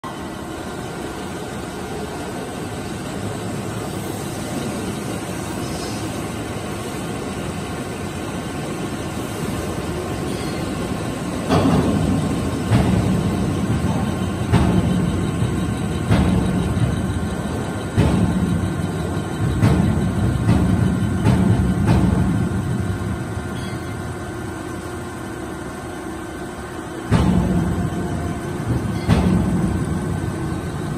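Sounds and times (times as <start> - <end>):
machine mechanical hum: 0.0 - 30.9.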